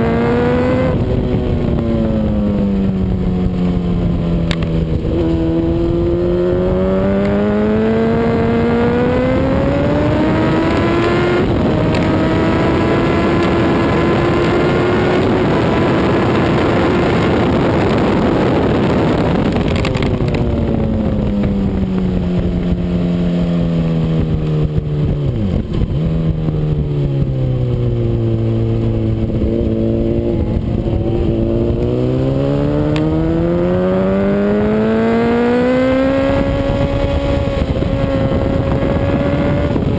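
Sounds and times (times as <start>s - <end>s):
heavy wind rush: 0.0s - 39.9s
motorcycle engine revving: 0.0s - 39.9s.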